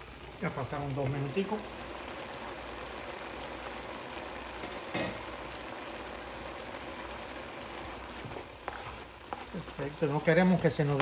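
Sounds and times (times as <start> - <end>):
food simmering in a pan: 0.0 - 11.0.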